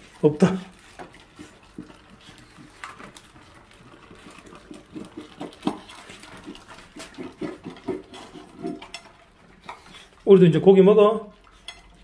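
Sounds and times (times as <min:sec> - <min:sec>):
dogs licking and chewing: 0:00.0 - 0:12.0
metal bowls clinking and scraping: 0:00.0 - 0:12.0.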